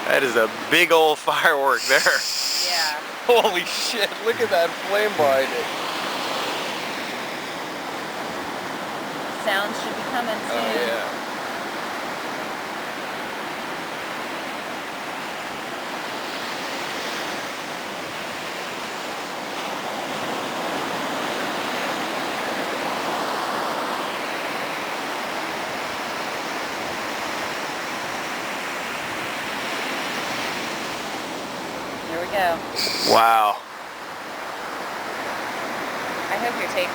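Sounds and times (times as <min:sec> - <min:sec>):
ocean surf breaking: 0:00.0 - 0:36.9.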